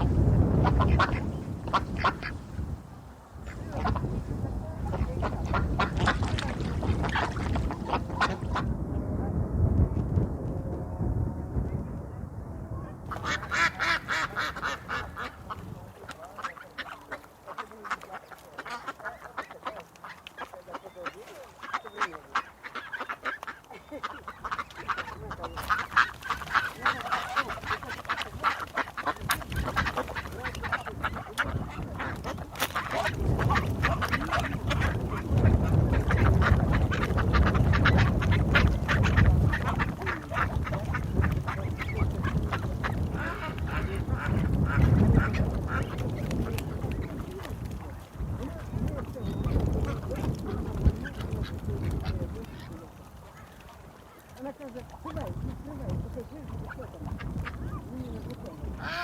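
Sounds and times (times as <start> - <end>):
ducks quacking: 0.0 - 2.6, 3.4 - 8.8, 12.8 - 59.0.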